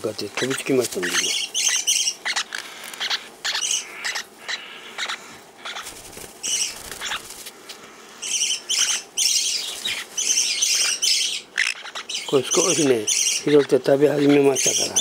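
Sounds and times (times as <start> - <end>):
parrots chirping: 0.4 - 7.4, 8.2 - 15.0.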